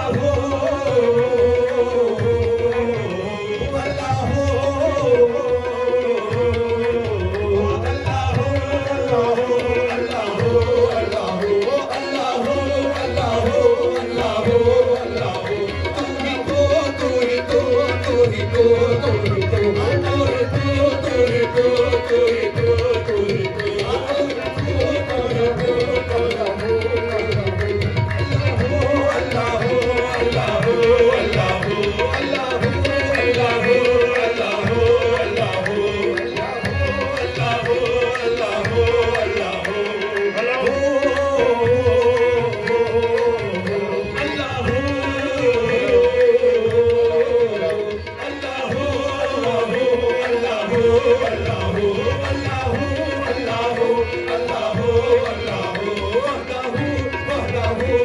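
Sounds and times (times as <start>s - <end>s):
tabla rhythm: 0.0s - 58.0s.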